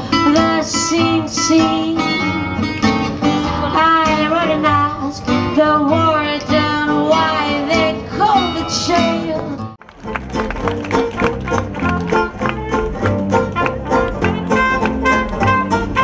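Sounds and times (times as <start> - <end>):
guitar: 0.0 - 16.0.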